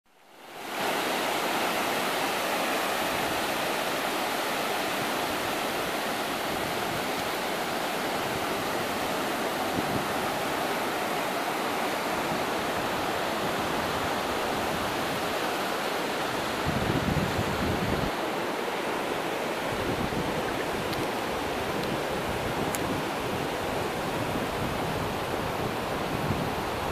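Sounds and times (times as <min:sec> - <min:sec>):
surf breaking on a beach: 0:00.2 - 0:26.9.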